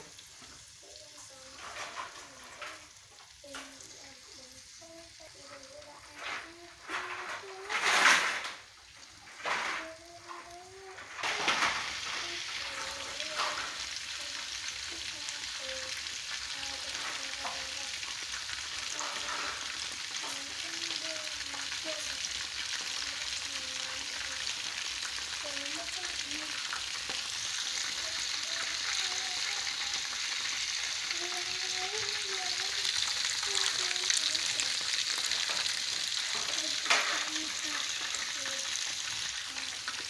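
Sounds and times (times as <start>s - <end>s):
meat sizzling in a wok: 0.0s - 40.0s.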